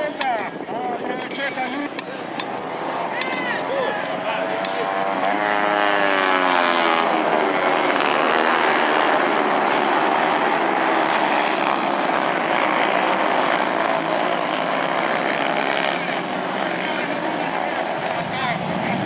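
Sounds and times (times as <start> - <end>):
motorcycle passing: 0.0 - 19.0
race motorcycles at high revs: 0.0 - 19.0.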